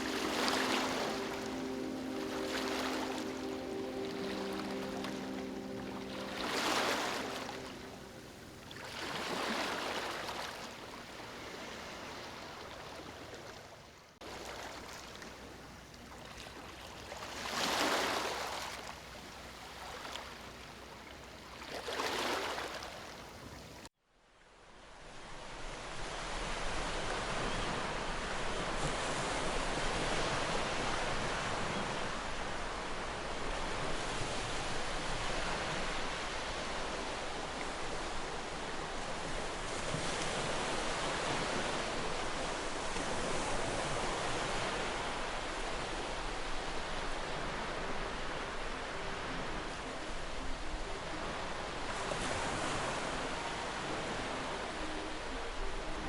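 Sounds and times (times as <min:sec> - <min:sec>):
sea waves surging and washing back: 0:00.0 - 0:23.9, 0:24.6 - 0:56.0.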